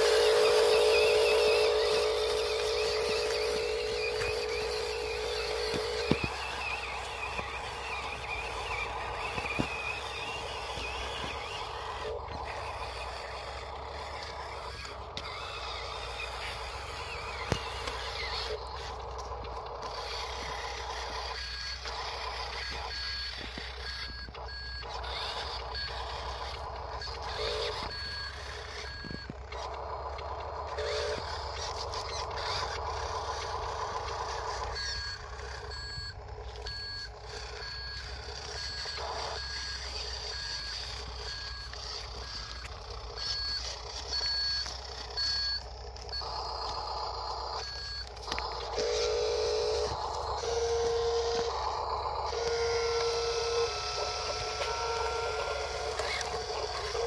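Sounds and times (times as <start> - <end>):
electronic reversing beeps: 0.0 - 57.0
toy truck mechanical running: 0.0 - 57.0.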